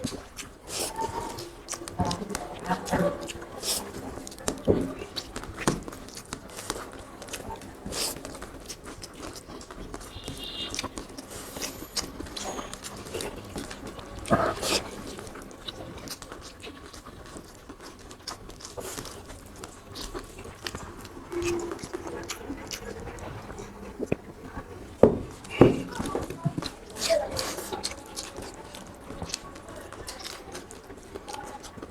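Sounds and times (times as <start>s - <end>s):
people chewing: 0.0s - 31.9s.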